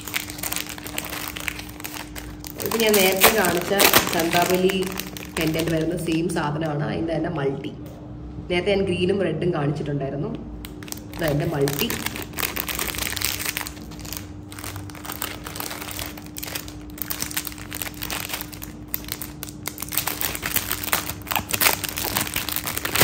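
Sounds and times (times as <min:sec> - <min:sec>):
plastic pouches crinkling: 0:00.0 - 0:06.4, 0:10.6 - 0:23.0.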